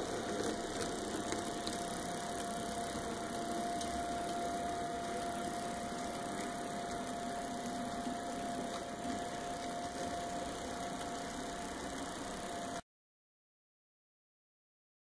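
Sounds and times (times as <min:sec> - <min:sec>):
model train motor whirring: 0:00.0 - 0:12.8
thin constant whine: 0:00.0 - 0:12.8
wheels rolling on rails: 0:00.0 - 0:12.8.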